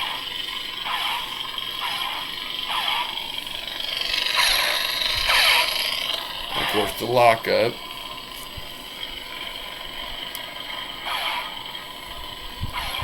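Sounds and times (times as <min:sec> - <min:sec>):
blaster deflection zaps: 0:00.0 - 0:13.0
lightsaber humming with crackle: 0:00.0 - 0:13.0.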